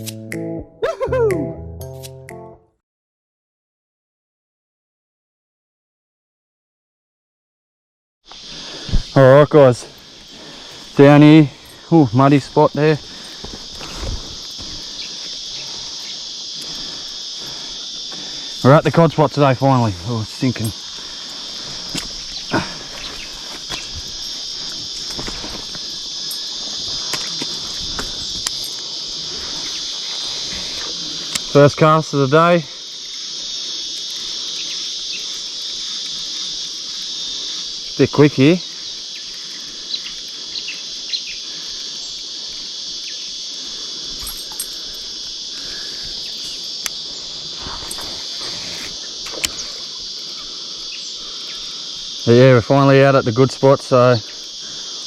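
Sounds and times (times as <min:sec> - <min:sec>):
high-pitched insect chorus: 0:00.8 - 0:01.3, 0:08.2 - 0:55.0.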